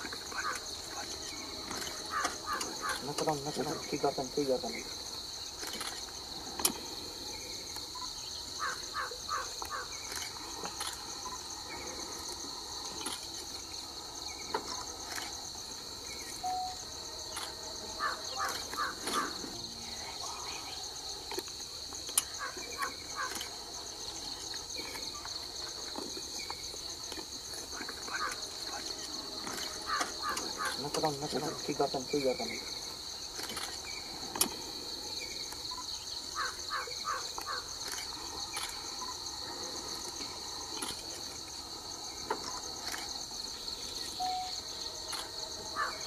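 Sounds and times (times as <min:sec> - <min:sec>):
pulsing insect chorus: 0:00.0 - 0:46.0.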